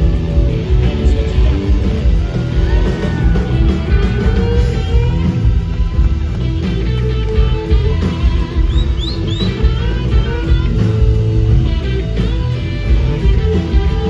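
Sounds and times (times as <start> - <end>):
electric guitar lead bending notes: 0.0 - 14.0
live blues-rock band: 0.0 - 14.0.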